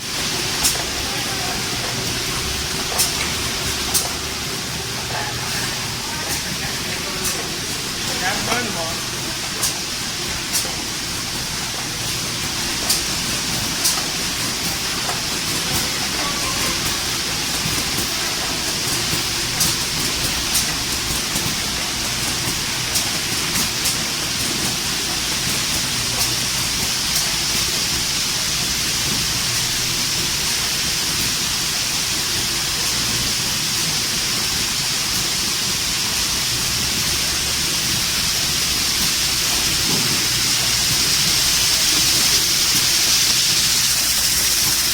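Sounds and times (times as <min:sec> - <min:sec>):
packing machine hiss: 0:00.0 - 0:44.9.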